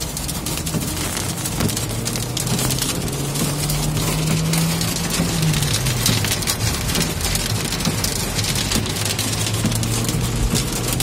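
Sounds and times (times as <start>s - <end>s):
heavy rain on vehicle roof: 0.0s - 11.0s
low engine hum: 0.0s - 11.0s.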